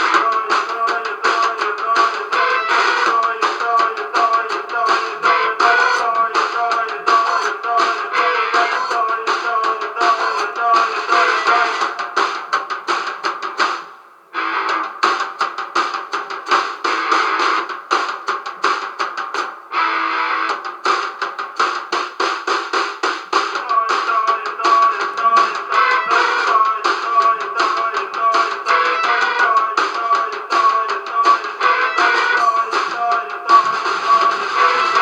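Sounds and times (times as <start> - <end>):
band playing guitar and drums: 0.0 - 35.0.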